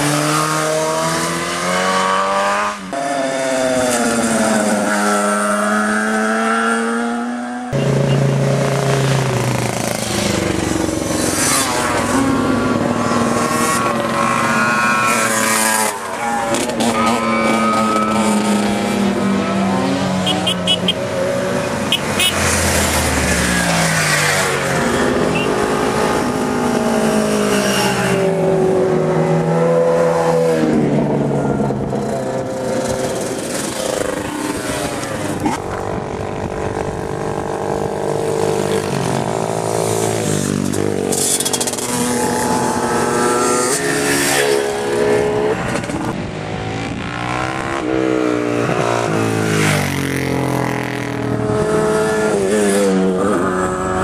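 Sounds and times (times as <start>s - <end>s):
motorcycle engines revving: 0.0s - 54.0s
motorcycles passing: 0.0s - 54.0s.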